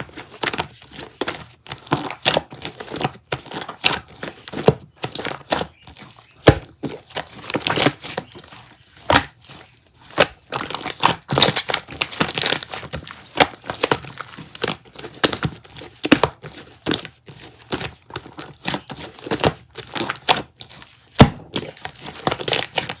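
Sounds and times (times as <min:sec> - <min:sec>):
crinkling handling noise: 0:00.0 - 0:23.0.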